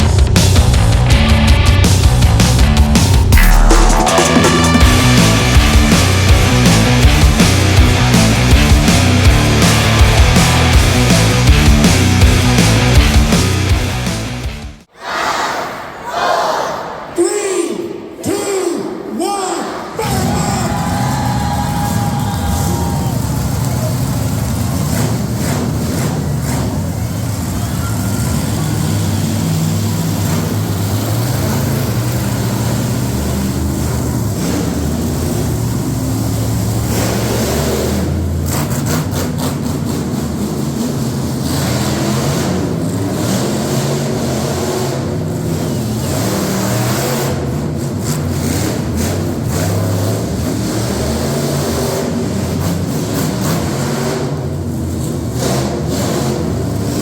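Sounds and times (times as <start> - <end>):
truck engine revving: 0.0 - 14.9, 20.0 - 57.0.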